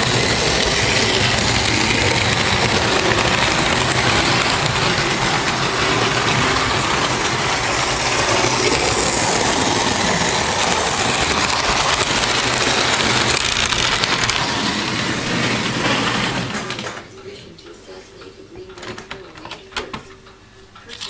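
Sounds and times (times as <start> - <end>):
model trains clattering: 0.0 - 17.2, 18.2 - 20.3.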